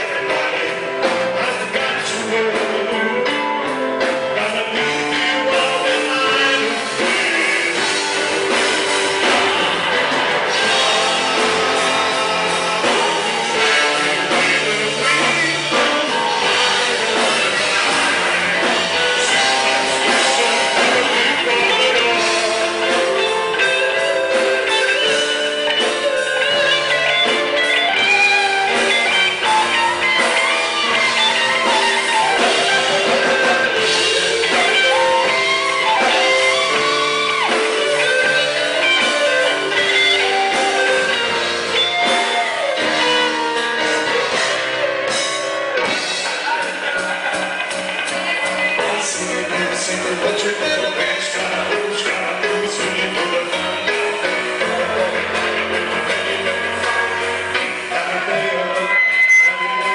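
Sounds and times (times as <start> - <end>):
drum kit: 0.0 - 59.9
electric guitar: 0.0 - 59.9
person singing: 0.0 - 59.9.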